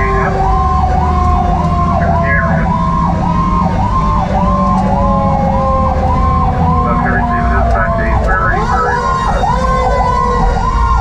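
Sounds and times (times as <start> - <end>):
electronic siren yelping: 0.0 - 11.0
mechanical siren wailing: 0.0 - 11.0
truck engine and road rumble: 0.0 - 11.0.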